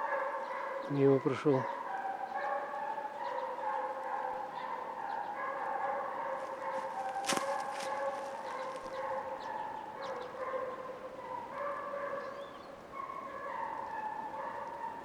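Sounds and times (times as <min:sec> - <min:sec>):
hounds baying in chorus: 0:00.0 - 0:15.0.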